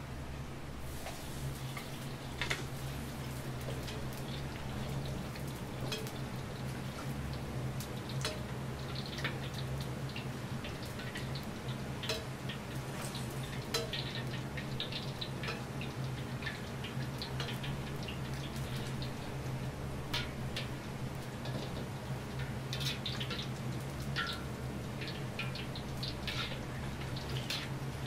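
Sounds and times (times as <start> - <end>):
crackles and ticks from woks: 0.1 - 28.0.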